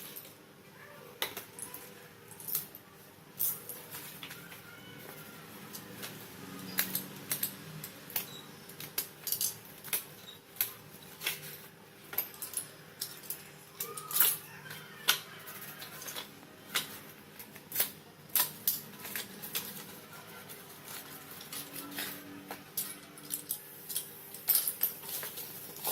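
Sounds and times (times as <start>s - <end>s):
slate pencils clicking: 3.4s - 25.9s.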